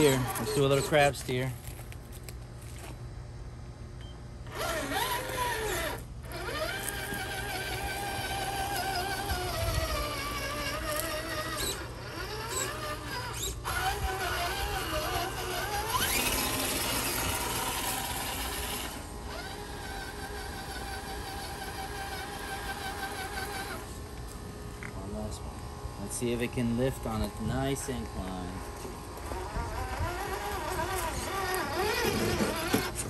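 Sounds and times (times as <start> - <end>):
toy car electric motor whining: 0.0 - 1.5, 4.4 - 24.2, 27.2 - 33.0.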